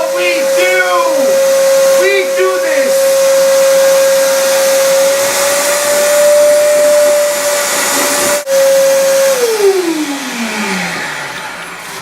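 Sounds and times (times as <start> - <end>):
shop vacuum whining: 0.0 - 12.0
vacuum motor winding down: 0.0 - 12.0.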